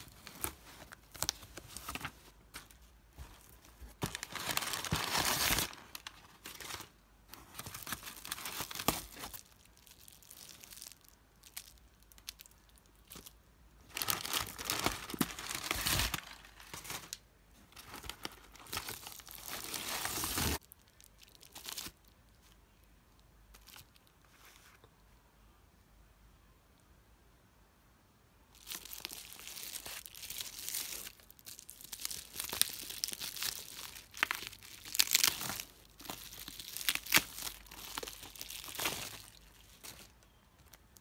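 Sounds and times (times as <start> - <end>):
packing paper rustling: 0.0 - 12.4, 13.9 - 22.0, 28.6 - 41.0.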